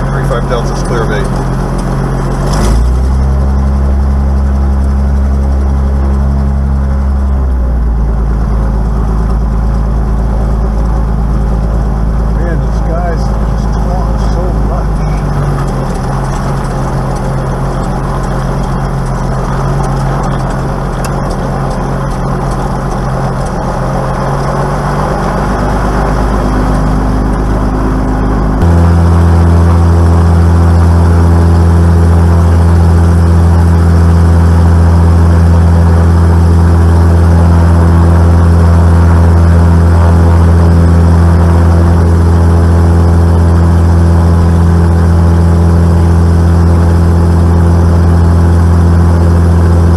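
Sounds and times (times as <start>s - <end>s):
aircraft piston engine running: 0.0s - 49.9s.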